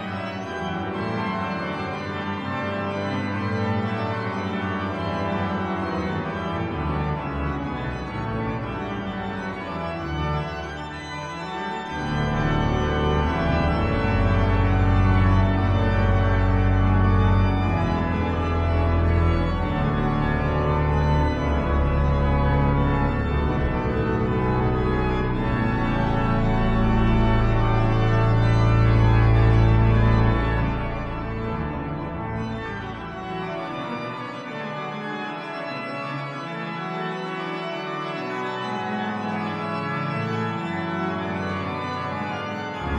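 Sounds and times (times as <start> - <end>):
deep organ pedal bass notes: 0.0 - 42.9
organ chords: 0.0 - 42.9.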